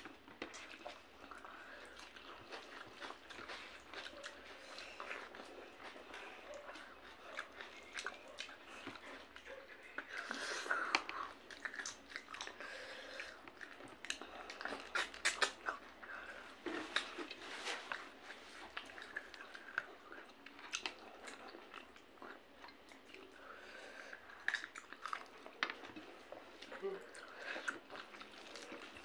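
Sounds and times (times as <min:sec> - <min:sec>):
chewing and mouth smacking: 0:00.0 - 0:29.0.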